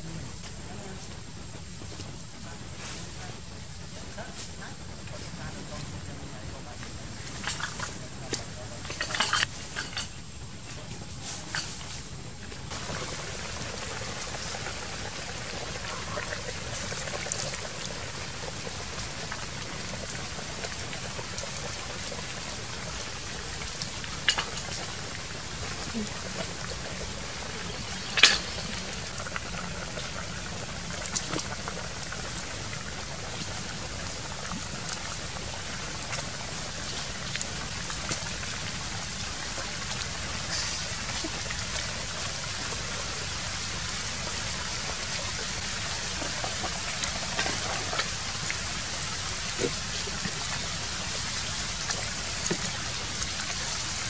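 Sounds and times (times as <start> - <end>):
soup boiling with bubbling hiss: 0.0 - 54.0.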